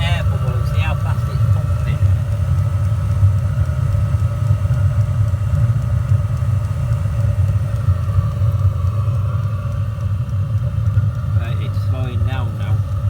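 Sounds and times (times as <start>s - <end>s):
air heater rumbling with whine: 0.0s - 13.0s
fuel pump ticking: 0.0s - 13.0s.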